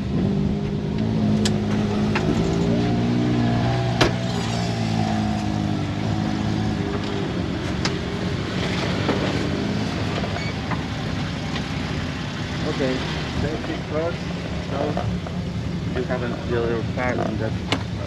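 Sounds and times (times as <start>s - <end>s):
atv engines running: 0.0s - 18.0s.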